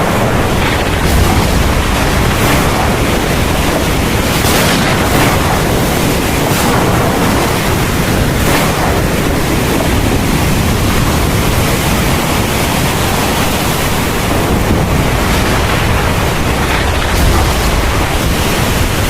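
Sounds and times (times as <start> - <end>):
deep thunder rumble: 0.0 - 19.0
heavy rain hiss: 0.0 - 19.0.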